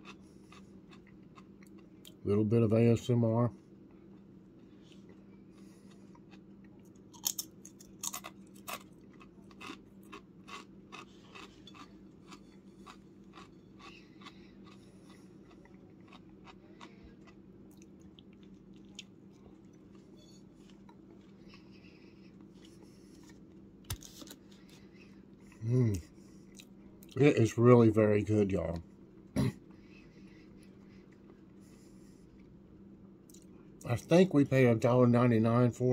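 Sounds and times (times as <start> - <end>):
person chewing sandwich: 0.0 - 2.2, 3.6 - 27.2, 29.0 - 33.9
steady low hum: 0.0 - 35.9.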